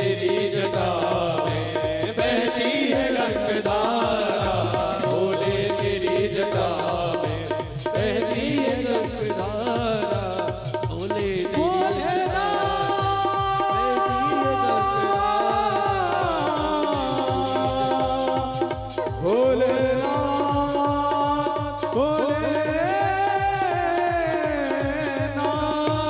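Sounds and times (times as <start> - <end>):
fast drum beat: 0.8 - 26.0.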